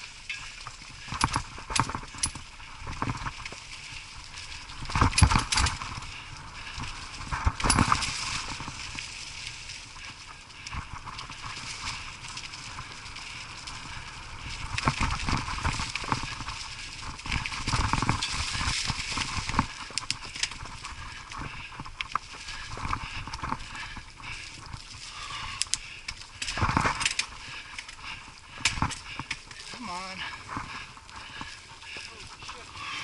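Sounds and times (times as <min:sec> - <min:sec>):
mountain bike rattling on dirt trail: 0:00.0 - 0:33.0.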